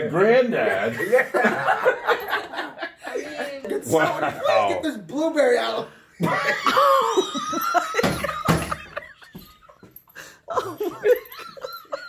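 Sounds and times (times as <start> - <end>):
people laughing hard: 0.8 - 4.7, 6.2 - 12.0.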